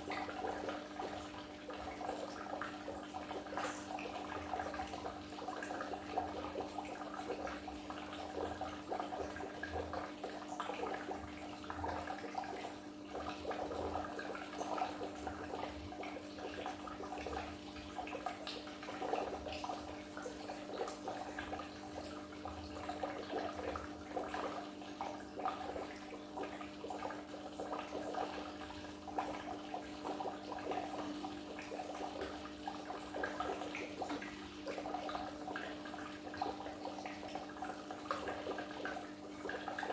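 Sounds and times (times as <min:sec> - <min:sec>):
aquarium water trickling: 0:00.0 - 0:39.9.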